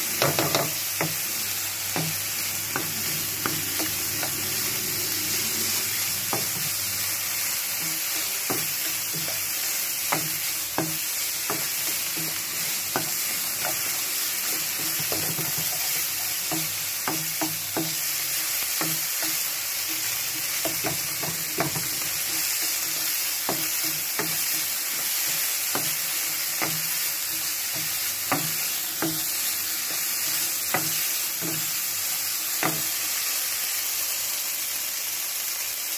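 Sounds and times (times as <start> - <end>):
fish sizzling in oil: 0.0 - 35.9.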